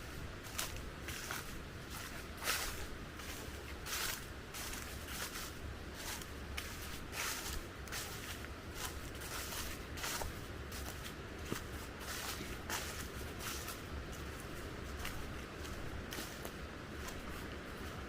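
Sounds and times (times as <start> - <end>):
footsteps on a trail: 0.0 - 18.0.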